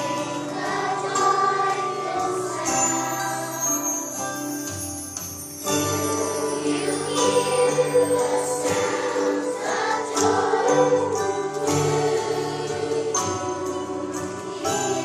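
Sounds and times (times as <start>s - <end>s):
choir singing: 0.0s - 4.2s, 5.6s - 15.0s
instrumental accompaniment: 0.0s - 15.0s.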